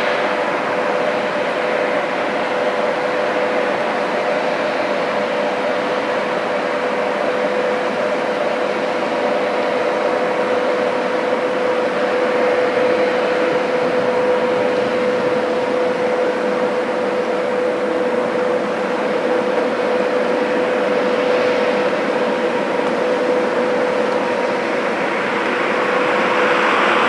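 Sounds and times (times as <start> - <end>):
constant machine whine: 0.0 - 27.0
heavy crane machinery drone: 0.0 - 27.0.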